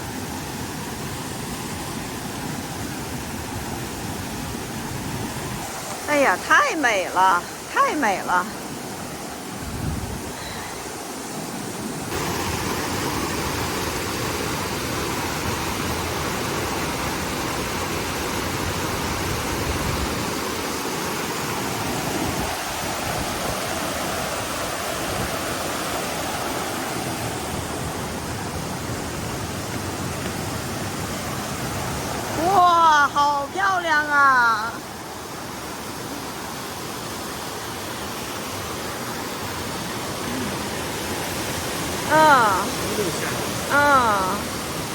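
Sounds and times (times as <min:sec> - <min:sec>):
stream rushing over waterfalls: 0:00.0 - 0:44.9.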